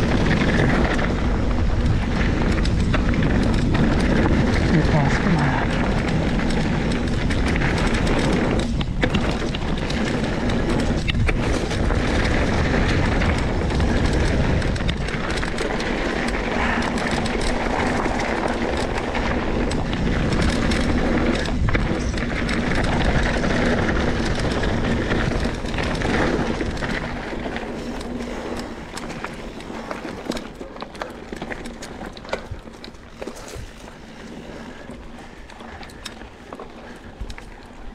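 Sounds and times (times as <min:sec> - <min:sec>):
wind noise on microphone: 0:00.0 - 0:30.5
bike knocks and rattles: 0:00.0 - 0:37.9
bike tyre rumble on gravel: 0:00.0 - 0:37.9.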